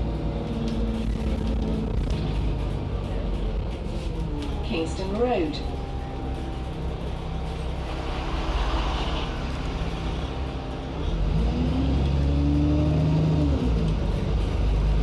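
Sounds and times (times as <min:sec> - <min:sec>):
bus engine and gearbox running: 0:00.0 - 0:15.0.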